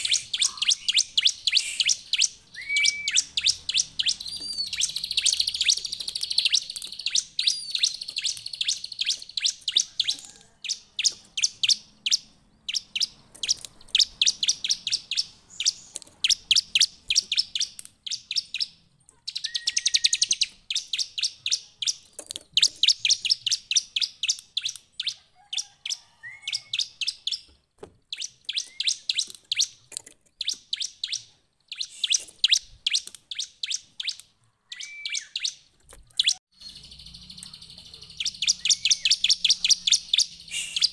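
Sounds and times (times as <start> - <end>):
bird singing high chirps: 0.0 - 40.9.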